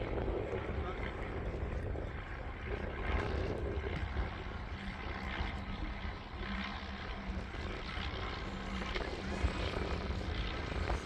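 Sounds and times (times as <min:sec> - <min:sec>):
distant engine droning: 0:00.0 - 0:11.0
wind rumble on microphone: 0:00.0 - 0:11.0.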